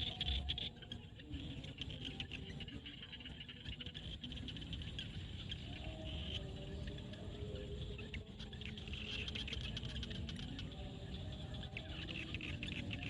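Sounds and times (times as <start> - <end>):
frogs clicking calls: 0.0 - 13.0
low frog croaks: 0.0 - 13.0.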